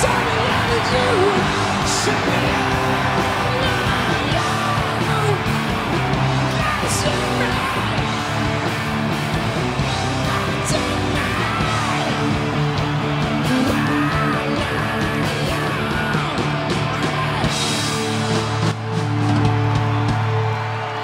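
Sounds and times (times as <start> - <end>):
electric guitar: 0.0 - 21.0
live rock band playing: 0.0 - 21.0
people yelling: 0.0 - 21.0.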